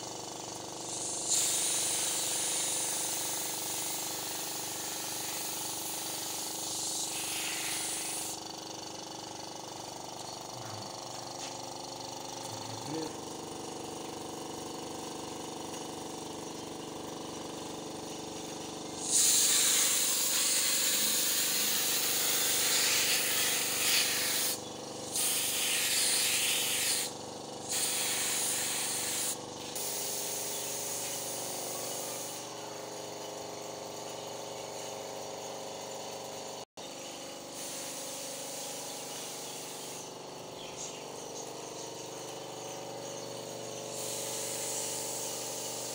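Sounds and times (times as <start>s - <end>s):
paint spray gun hissing: 0.0s - 41.0s, 41.7s - 45.9s.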